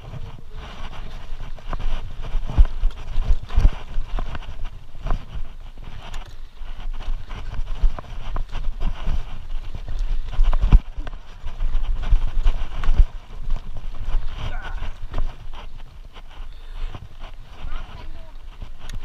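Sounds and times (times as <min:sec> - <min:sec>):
bike tyres crunching over stones: 0:00.0 - 0:19.0.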